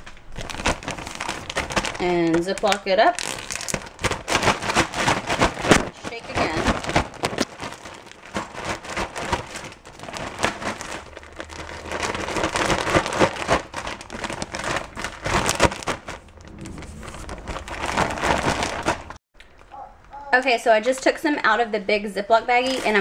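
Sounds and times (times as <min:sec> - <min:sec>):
plastic bag rustling: 0:00.0 - 0:19.2, 0:22.6 - 0:23.0
cereal rattling in bag: 0:00.3 - 0:19.2.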